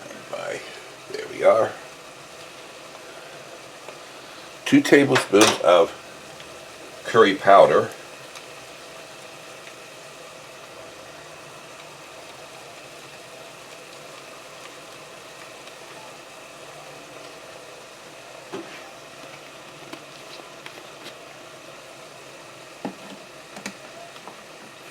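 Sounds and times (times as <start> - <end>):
stovetop hum and hiss: 0.0 - 24.9.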